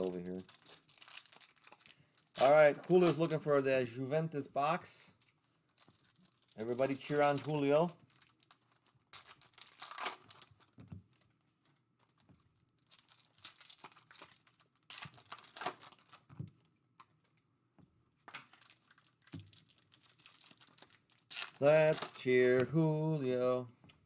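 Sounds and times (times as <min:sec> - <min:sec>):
foil wrappers crinkling and tearing: 0:00.0 - 0:03.6, 0:05.2 - 0:11.4, 0:12.0 - 0:16.5, 0:18.4 - 0:23.4.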